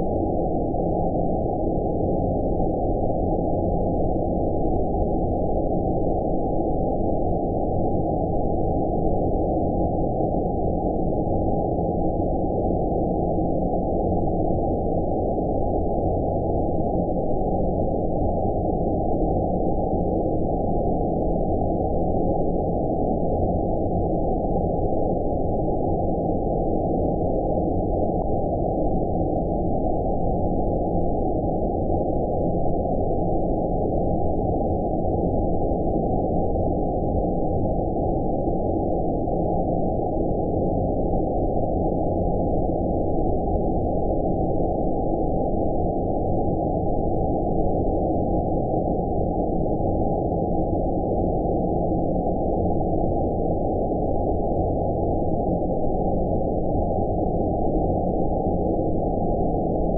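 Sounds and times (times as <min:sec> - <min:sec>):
low-filtered white noise: 0:00.0 - 0:59.9.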